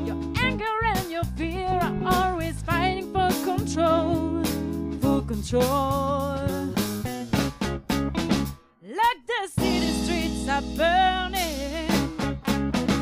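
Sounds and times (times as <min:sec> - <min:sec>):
person singing with vibrato: 0:00.0 - 0:07.3, 0:08.8 - 0:12.3
instrumental backing: 0:00.0 - 0:08.8, 0:09.6 - 0:13.0.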